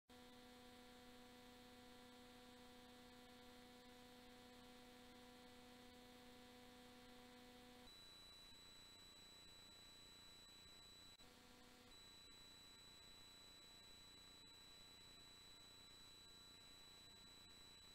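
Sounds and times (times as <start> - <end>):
faint electrical hum: 0.1 - 17.9
high-pitched whine: 0.1 - 17.9.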